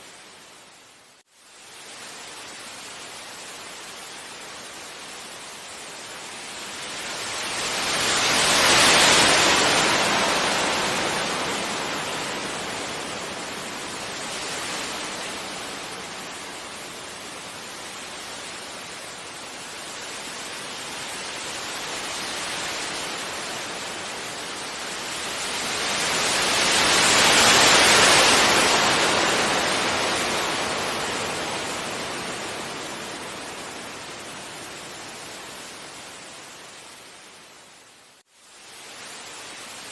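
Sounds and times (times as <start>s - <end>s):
waves breaking on beach: 1.6s - 37.7s.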